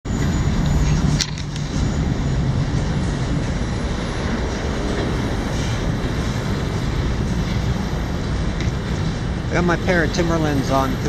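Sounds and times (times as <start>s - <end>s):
steady low rumbling: 0.1s - 11.0s.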